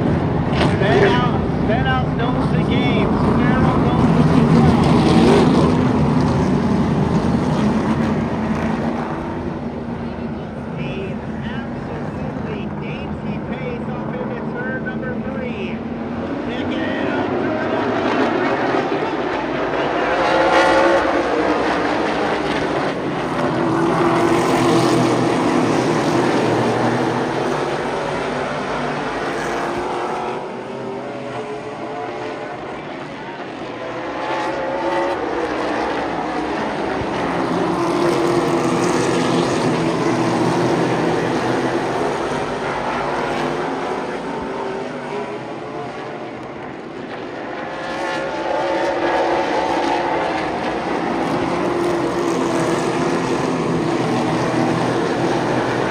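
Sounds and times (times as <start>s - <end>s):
race car engines passing: 0.0s - 55.9s.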